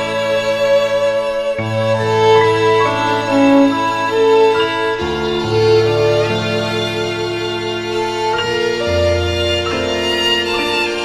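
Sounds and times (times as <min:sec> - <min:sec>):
slow calm instrumental music: 0:00.0 - 0:11.0.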